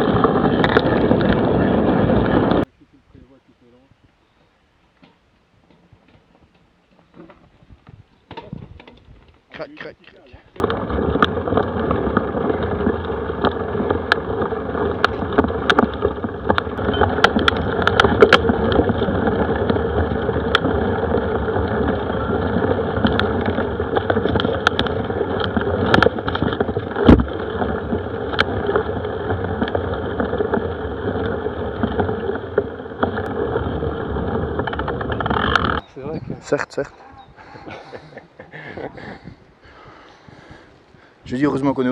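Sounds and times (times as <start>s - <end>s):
tyres rumbling on dirt trail: 0.0s - 41.9s
bike clicks and rattles: 4.4s - 41.1s.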